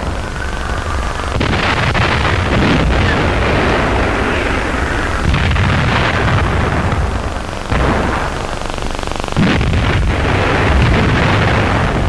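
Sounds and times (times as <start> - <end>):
artillery shells bursting: 0.0 - 12.0.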